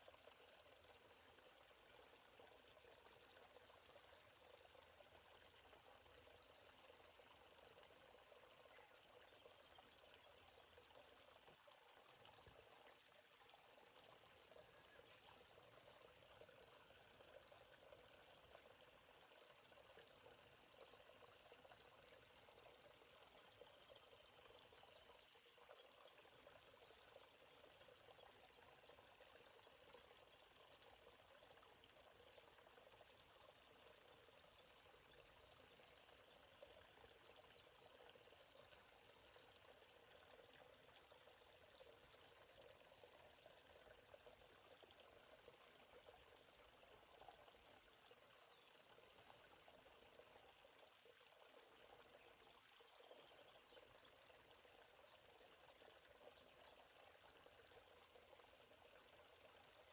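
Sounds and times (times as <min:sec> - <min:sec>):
faint trickling stream: 0:00.0 - 0:59.9
insects chorus: 0:00.0 - 0:59.9.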